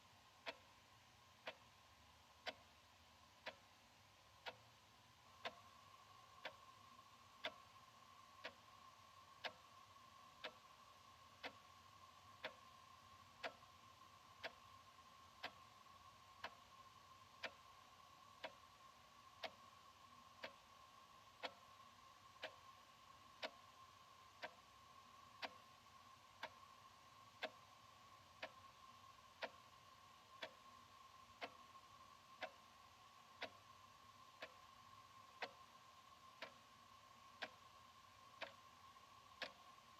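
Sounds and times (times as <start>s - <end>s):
faint steady tone: 0.0s - 39.9s
wall clock ticking: 0.0s - 39.9s.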